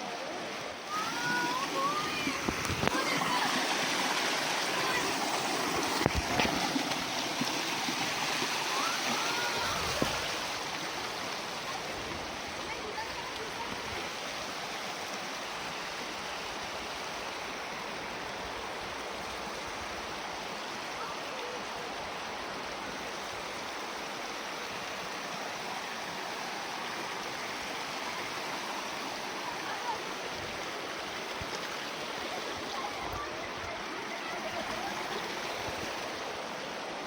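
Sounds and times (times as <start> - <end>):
stream water rushing over stones: 0.0 - 37.0.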